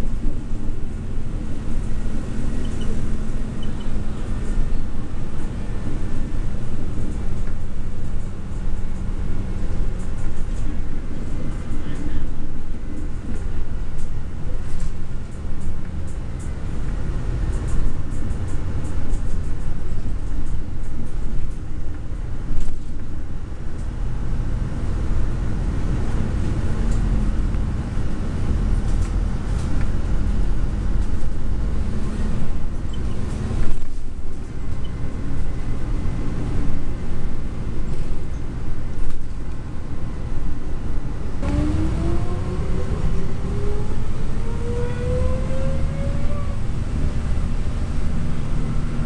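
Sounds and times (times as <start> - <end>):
bus engine rumble: 0.0 - 49.0
road noise: 0.0 - 49.0.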